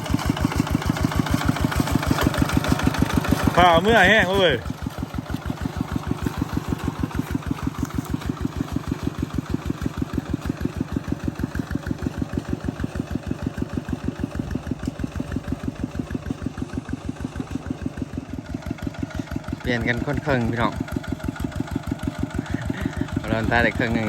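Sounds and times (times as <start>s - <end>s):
small engine putting: 0.0s - 24.0s.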